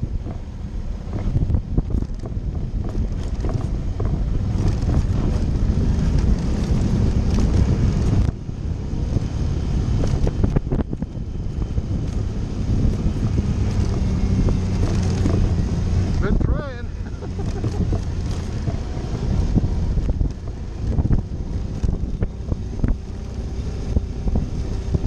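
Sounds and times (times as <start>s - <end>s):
motorcycle engine running: 0.0s - 25.0s
wind on microphone: 0.0s - 25.0s.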